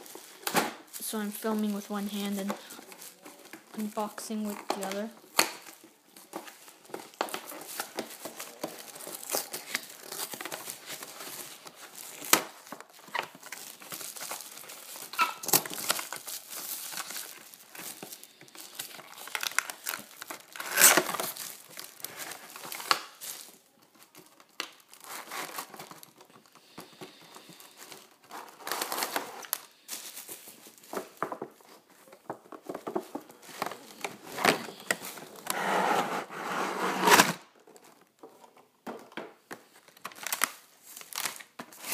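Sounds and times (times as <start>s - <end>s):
toy packaging crinkling and tearing: 0.0s - 35.6s, 39.5s - 41.9s.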